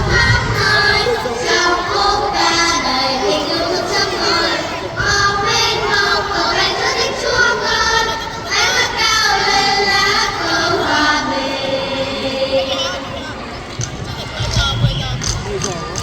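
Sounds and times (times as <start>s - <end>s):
children's choir singing: 0.0s - 14.9s.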